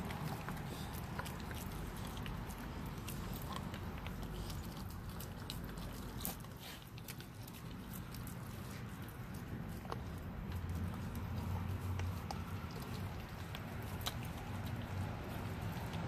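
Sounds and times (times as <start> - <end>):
puppies chewing and licking: 0.0 - 16.0.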